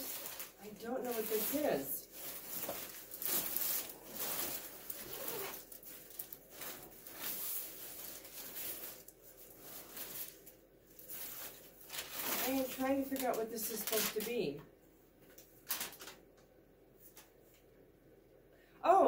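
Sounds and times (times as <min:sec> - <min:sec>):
plastic packaging crinkling: 0:00.0 - 0:14.6, 0:15.3 - 0:16.3.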